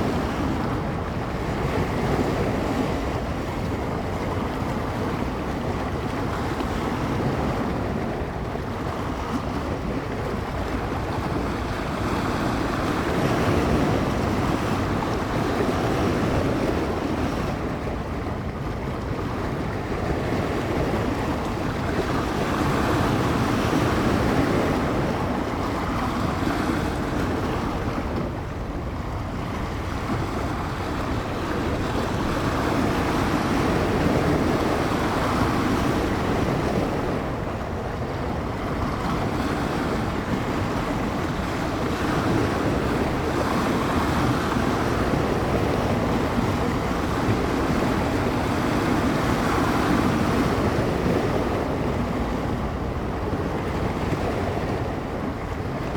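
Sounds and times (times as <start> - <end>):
waves breaking on shore: 0.0 - 55.9
wind buffeting microphone: 0.0 - 55.9.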